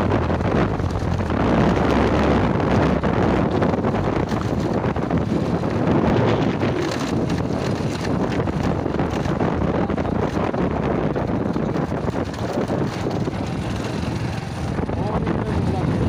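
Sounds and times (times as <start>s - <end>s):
vehicle rumble on gravel: 0.0s - 16.0s
wind rushing over microphone: 0.0s - 16.0s.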